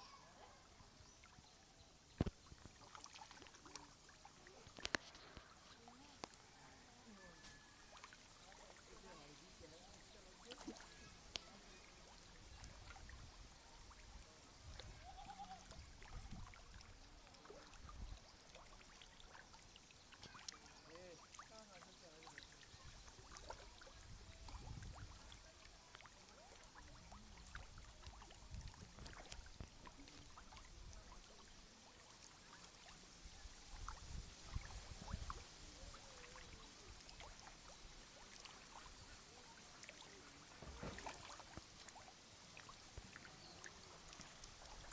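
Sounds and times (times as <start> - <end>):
faint water sounds: 0.0 - 44.9.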